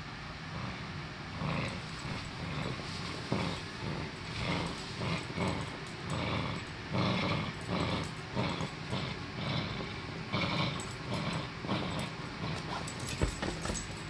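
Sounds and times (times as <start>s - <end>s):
dog play-growling: 0.3s - 14.0s.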